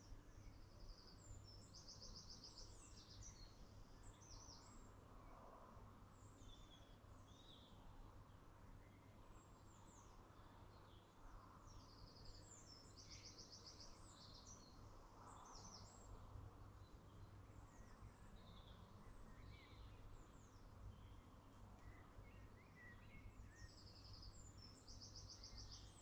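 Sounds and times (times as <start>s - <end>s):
songbirds chirping and whistling: 0.1s - 4.8s, 6.2s - 8.0s, 8.6s - 26.0s.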